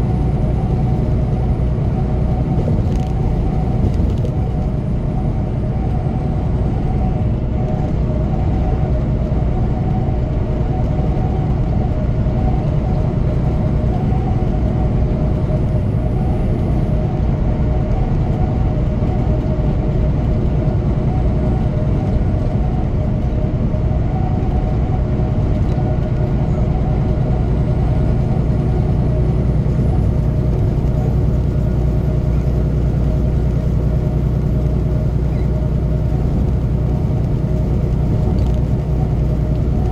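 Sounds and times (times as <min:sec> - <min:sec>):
truck engine and tyres droning: 0:00.0 - 0:39.9.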